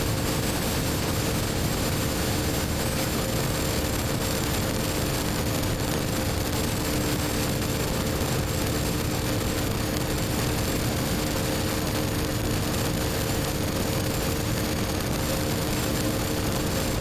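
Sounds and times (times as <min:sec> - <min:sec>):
rushing wind and road noise: 0:00.0 - 0:17.0.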